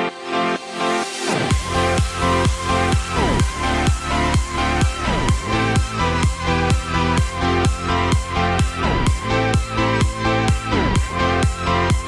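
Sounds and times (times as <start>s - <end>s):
sustained synth chords: 0.9s - 12.0s
kick drum: 1.5s - 12.0s.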